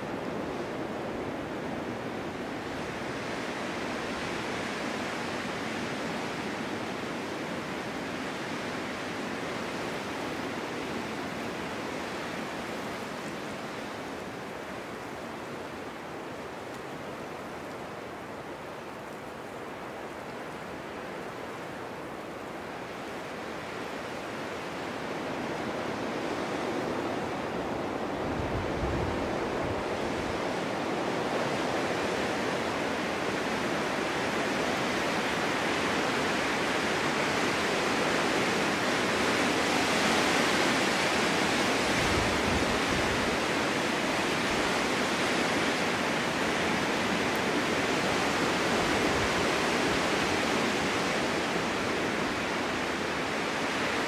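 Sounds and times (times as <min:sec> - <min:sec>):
snowstorm wind rushing: 0:00.0 - 0:54.0.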